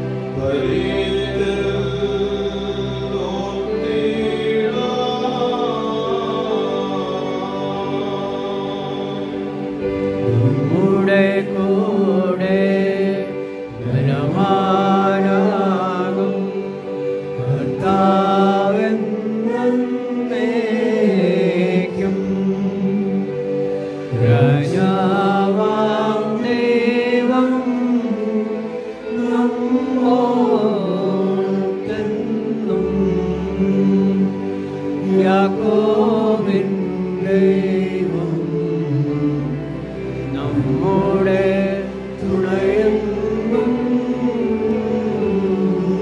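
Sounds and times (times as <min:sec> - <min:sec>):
held accompaniment: 0:00.0 - 0:46.0
voices singing a chant-like hymn: 0:00.0 - 0:46.0.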